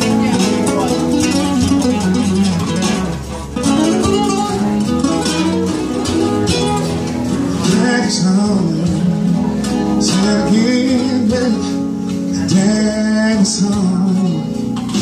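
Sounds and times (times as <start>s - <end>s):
amplified guitar melody: 0.0s - 15.0s.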